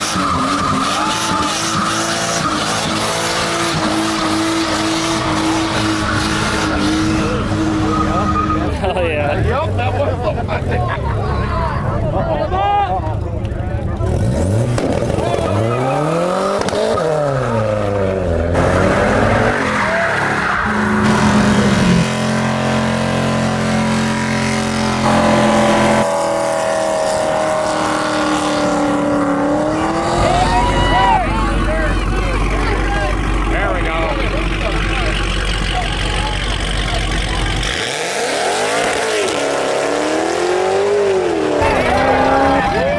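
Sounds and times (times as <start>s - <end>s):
car tires squealing: 0.0s - 9.9s, 14.2s - 42.9s
car engine running: 0.0s - 42.9s.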